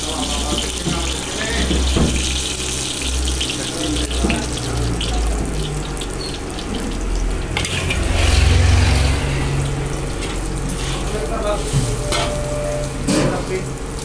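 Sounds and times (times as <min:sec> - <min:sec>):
egg sizzling in hot oil: 0:00.0 - 0:14.0.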